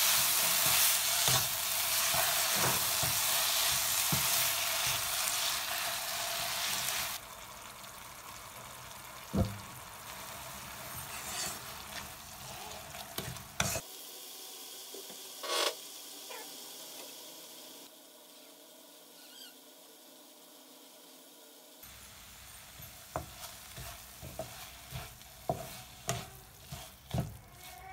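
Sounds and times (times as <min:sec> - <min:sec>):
beetroot sizzling in pan: 0:00.0 - 0:27.9.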